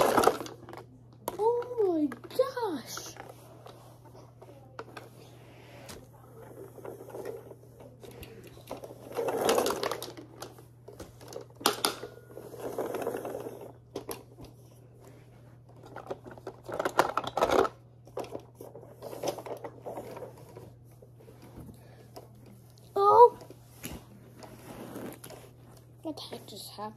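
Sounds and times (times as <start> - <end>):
plastic toys clattering: 0.0 - 5.3, 6.2 - 14.6, 15.7 - 23.6.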